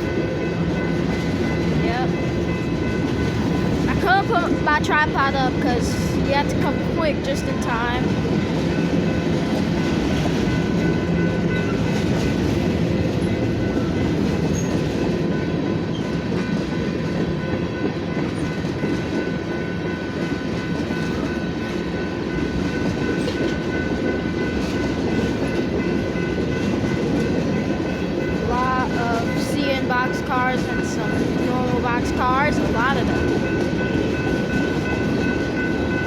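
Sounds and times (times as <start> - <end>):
steel wheels rumbling on rail: 0.0 - 36.0.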